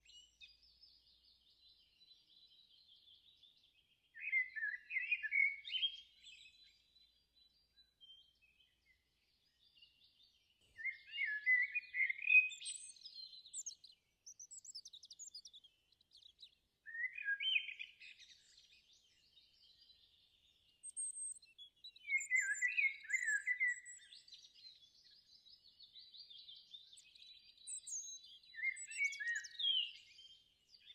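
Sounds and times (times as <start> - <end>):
faint high bird chirps: 0.0 - 30.9.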